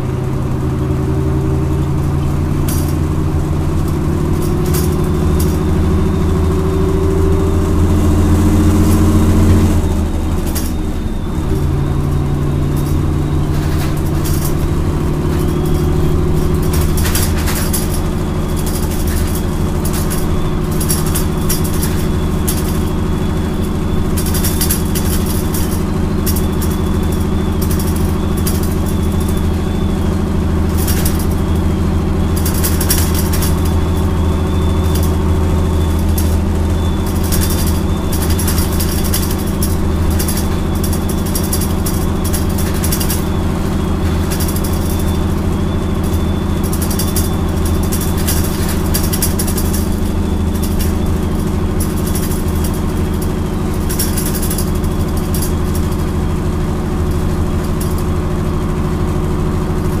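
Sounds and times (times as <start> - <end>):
bus engine running: 0.0 - 60.0
high rattles: 0.0 - 60.0.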